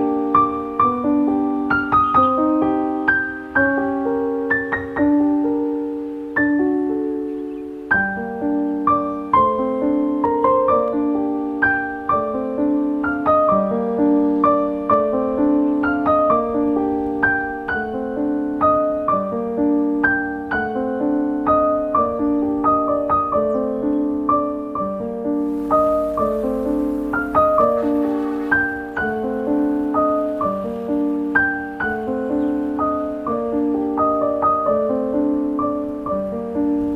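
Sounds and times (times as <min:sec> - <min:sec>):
piano music: 0:00.0 - 0:36.9.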